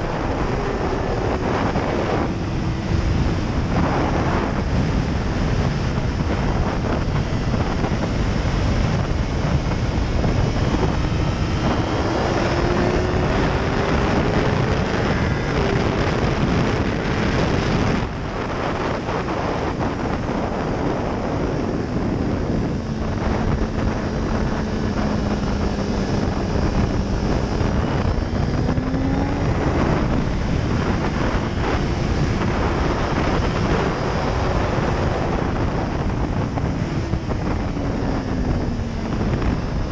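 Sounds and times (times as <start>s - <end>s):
motorcycle engine at speed: 0.0s - 39.9s
wind rush over microphone: 0.0s - 39.9s.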